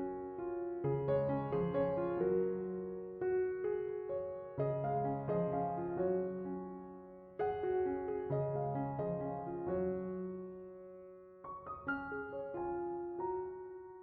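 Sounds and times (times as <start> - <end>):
soft solo piano music: 0.0 - 14.0.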